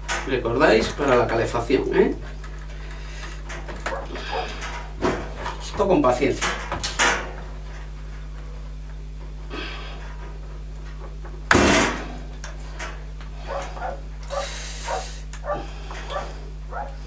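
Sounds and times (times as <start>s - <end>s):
steady electrical hum: 0.0s - 17.0s
wires rustling: 0.0s - 17.0s.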